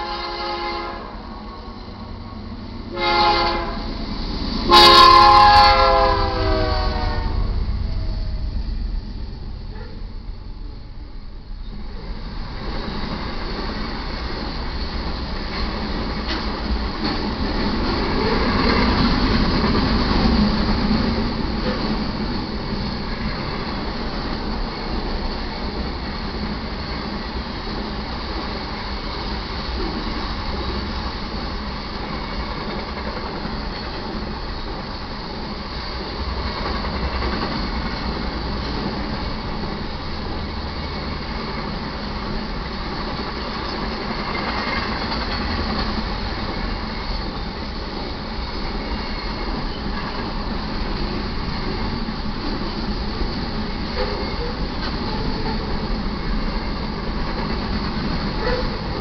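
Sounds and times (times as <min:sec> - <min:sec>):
train wheels rumbling on rails: 0:00.0 - 0:59.0
clickety-clack of rail joints: 0:01.7 - 0:59.0.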